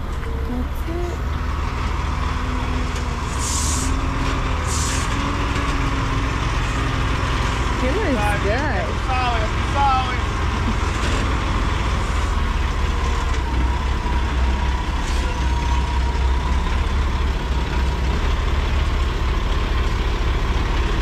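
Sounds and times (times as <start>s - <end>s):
diesel truck engine rumbling: 0.0s - 21.0s.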